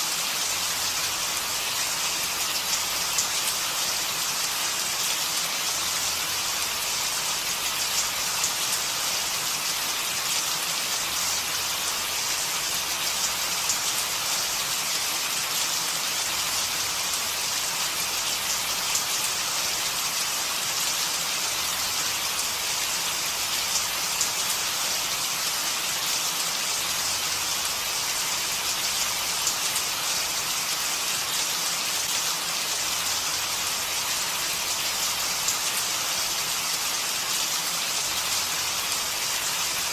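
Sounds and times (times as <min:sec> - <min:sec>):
steady rain falling: 0:00.0 - 0:39.9
raindrops pattering on a surface: 0:00.1 - 0:39.9.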